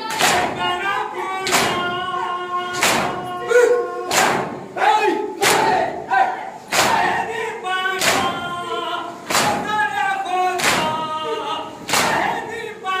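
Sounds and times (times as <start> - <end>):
voices chanting a lament: 0.0 - 13.0.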